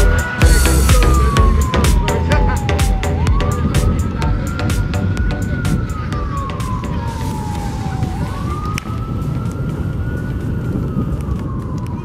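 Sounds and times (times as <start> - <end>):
low rumble: 0.0 - 11.6
siren wailing: 0.0 - 12.0.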